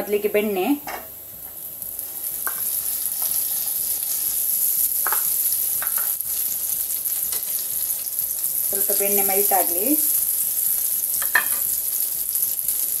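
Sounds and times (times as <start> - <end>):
butter sizzling in frying pan: 1.4 - 13.0.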